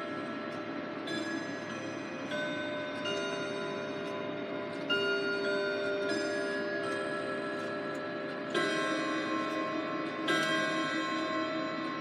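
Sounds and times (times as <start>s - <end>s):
grandfather clock chimes: 1.1s - 12.0s.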